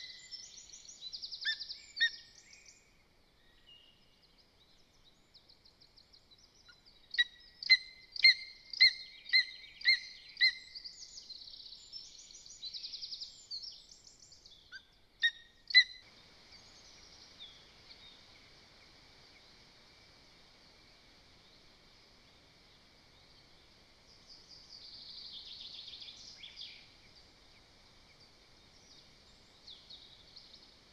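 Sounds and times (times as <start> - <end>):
steady hiss: 0.0 - 30.9.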